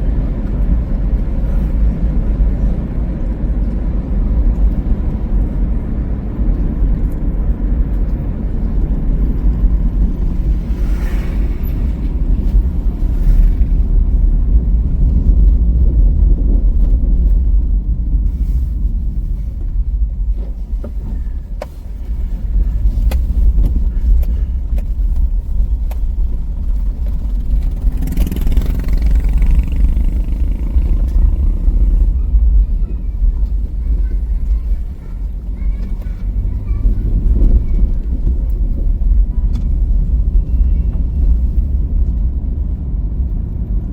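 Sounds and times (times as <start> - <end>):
car road rumble: 0.0 - 43.9
passing traffic swishes: 0.0 - 43.9.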